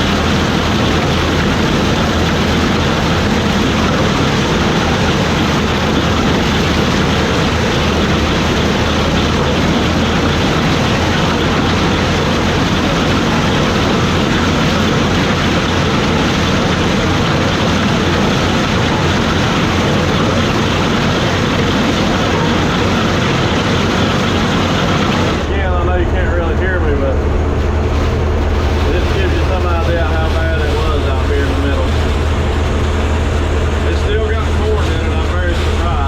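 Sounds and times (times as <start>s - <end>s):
combine harvester running: 0.0s - 36.0s.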